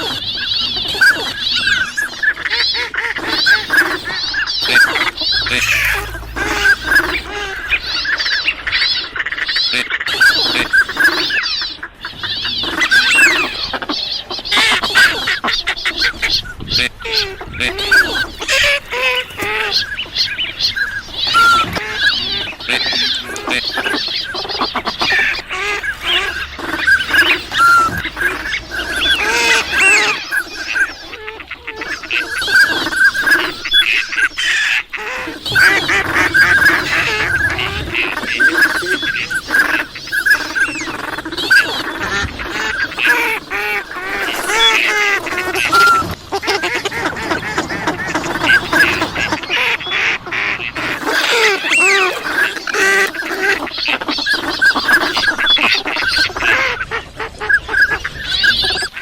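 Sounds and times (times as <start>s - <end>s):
ducks quacking: 0.0s - 59.0s
ducks whistling and chattering: 0.0s - 59.0s.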